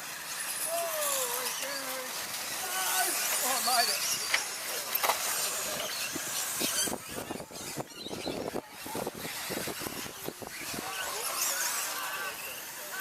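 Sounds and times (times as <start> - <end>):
electric rc truck motors whining: 0.0 - 13.0.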